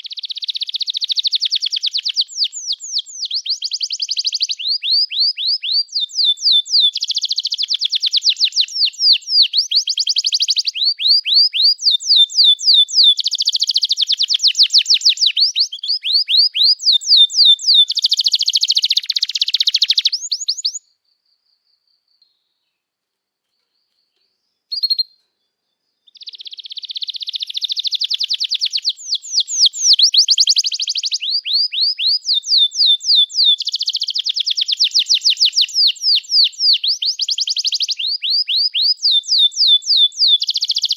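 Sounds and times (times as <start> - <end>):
canary singing chirps and trills: 0.0 - 21.0, 23.4 - 40.9.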